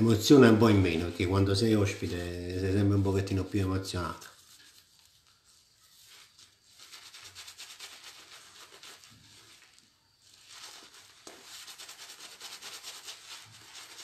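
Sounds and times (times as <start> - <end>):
shaving brush scrubbing lather: 0.0 - 14.0.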